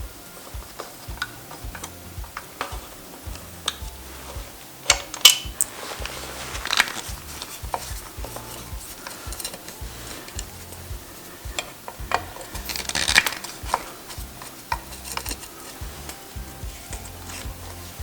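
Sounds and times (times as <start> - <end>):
background music with bass beat: 0.0 - 18.0
metal tools clinking: 0.2 - 18.0.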